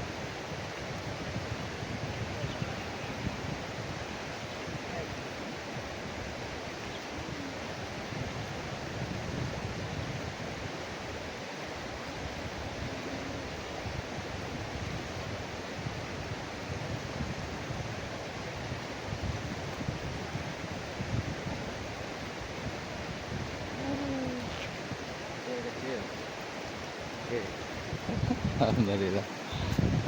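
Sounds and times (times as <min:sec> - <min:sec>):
fast-flowing river rushing: 0:00.0 - 0:30.0
wind buffeting microphone: 0:00.0 - 0:30.0.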